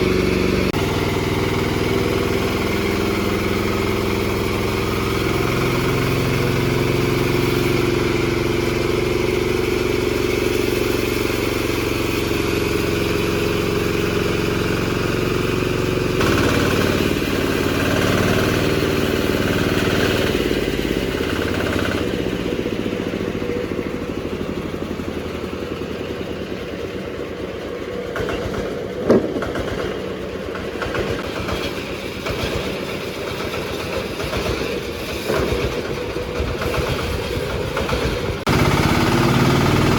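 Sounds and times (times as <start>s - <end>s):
diesel engine running a sawmill: 0.0s - 39.9s.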